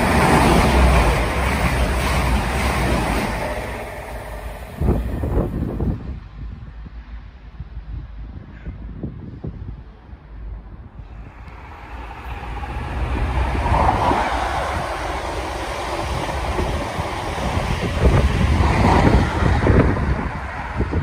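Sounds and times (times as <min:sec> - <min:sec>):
train wheels on rails: 0:00.0 - 0:07.3, 0:11.1 - 0:21.0
diesel train engine: 0:00.0 - 0:08.4, 0:09.6 - 0:21.0
wind buffeting microphone: 0:00.0 - 0:21.0.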